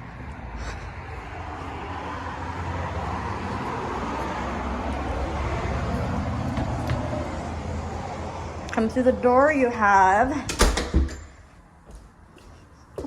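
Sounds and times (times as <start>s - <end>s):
highway traffic rushing: 0.0s - 13.0s.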